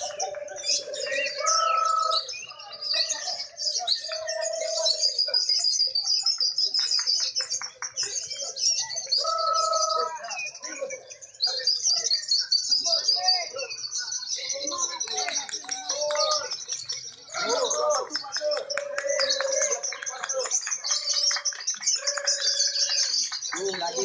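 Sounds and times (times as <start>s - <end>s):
lovebirds chirping and chattering: 0.0s - 24.0s.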